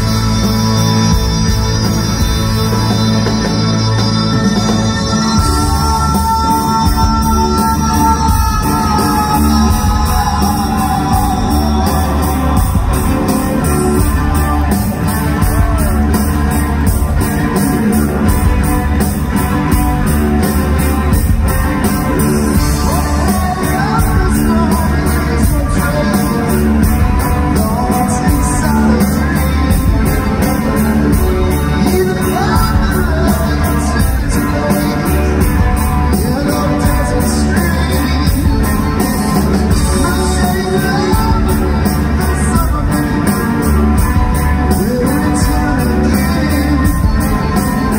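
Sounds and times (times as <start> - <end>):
man singing: 0.0 - 47.9
rock band playing: 0.0 - 47.9.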